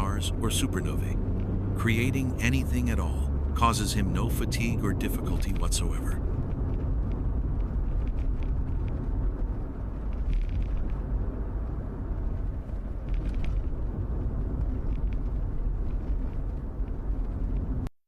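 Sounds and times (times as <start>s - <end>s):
low rumbling ambience: 0.0s - 17.9s.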